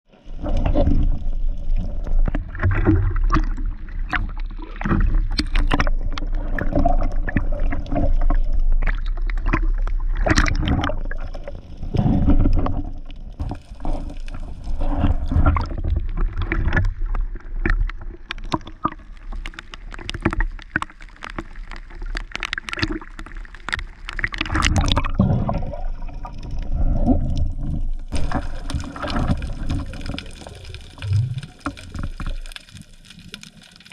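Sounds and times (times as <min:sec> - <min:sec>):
water gurgling and churning: 0:00.1 - 0:33.9.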